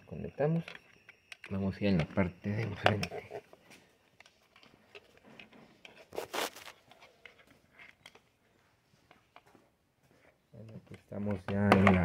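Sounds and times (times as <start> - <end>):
handling rustling and scraping: 0.2 - 12.0.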